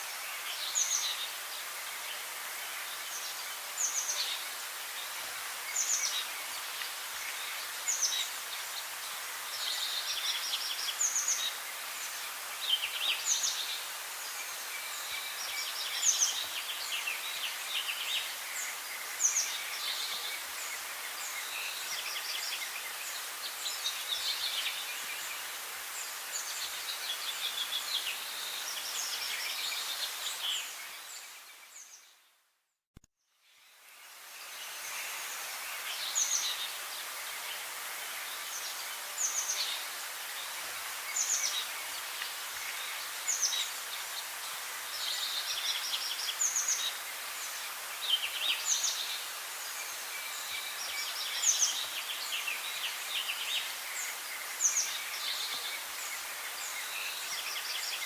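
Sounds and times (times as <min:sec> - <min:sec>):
background hiss: 0:00.0 - 0:32.4, 0:33.4 - 0:58.0
songbirds chirping: 0:00.0 - 0:32.5, 0:33.4 - 0:58.0.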